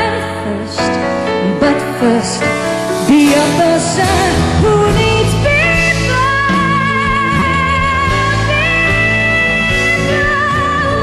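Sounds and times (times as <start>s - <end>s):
instrumental backing: 0.0s - 11.0s
woman singing into microphone: 0.0s - 11.0s.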